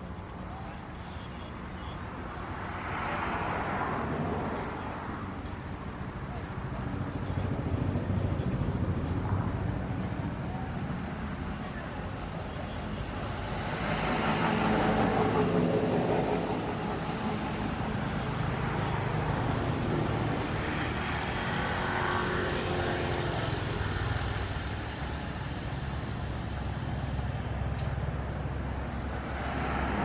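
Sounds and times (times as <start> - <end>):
vehicles passing by: 0.0 - 30.0.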